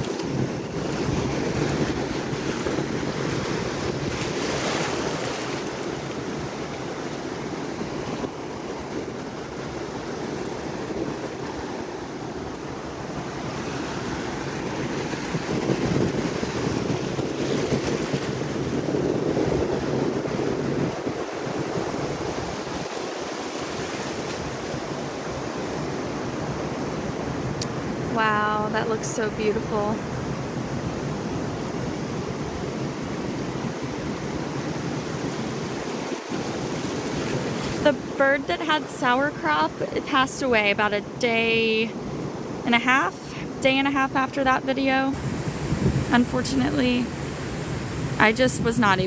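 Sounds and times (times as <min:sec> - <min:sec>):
ocean surf breaking: 0:00.0 - 0:49.0
wind rumbling on microphone: 0:00.0 - 0:49.0.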